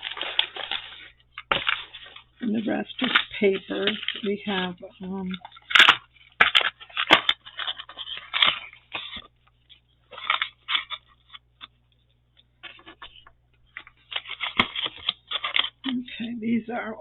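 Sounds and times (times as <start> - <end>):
paper rustling: 0.0 - 16.2.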